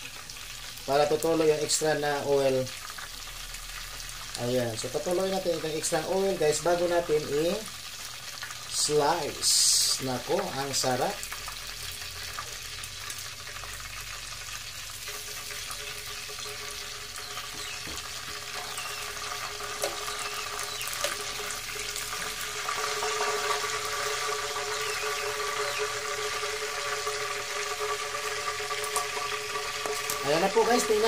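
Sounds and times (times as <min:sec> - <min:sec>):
oil sizzling in a pan: 0:00.0 - 0:31.0.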